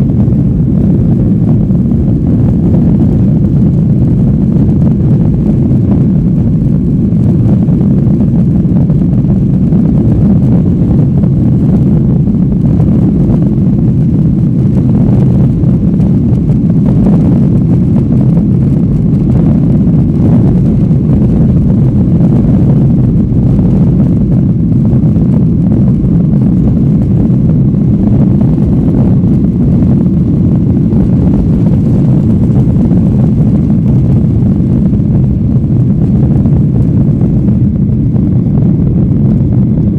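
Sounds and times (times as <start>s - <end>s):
jet engines and rushing air: 0.0s - 39.9s.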